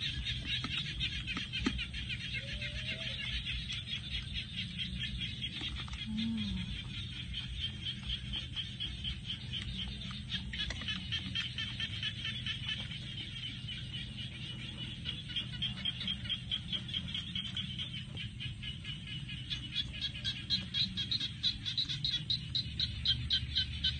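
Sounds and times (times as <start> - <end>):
frogs calling: 0.0 - 23.9
low steady hum: 0.0 - 23.9.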